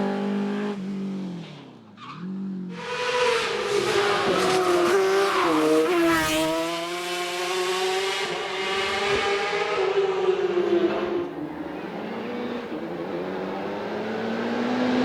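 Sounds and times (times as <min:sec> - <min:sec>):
race car engine at high revs: 0:00.0 - 0:01.4, 0:02.4 - 0:15.0.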